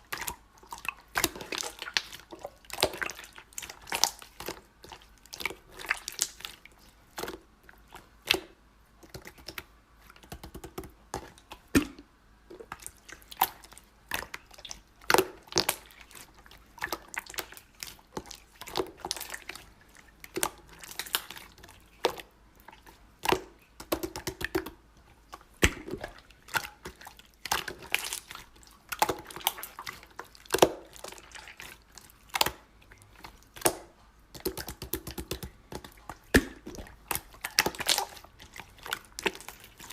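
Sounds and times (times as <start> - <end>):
slime squelching by hand: 0.0 - 39.9.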